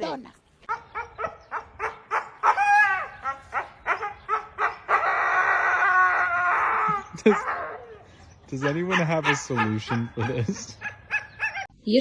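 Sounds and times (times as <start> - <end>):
dog howling and yapping: 0.7 - 11.7.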